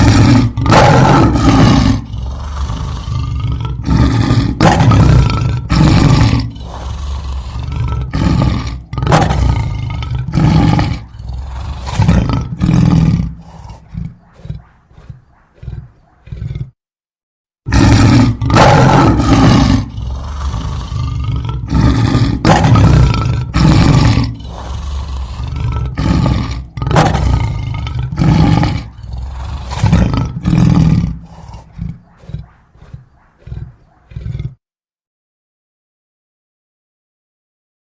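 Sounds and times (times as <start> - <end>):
lion roaring and grunting: 0.0 - 16.8, 17.7 - 34.6.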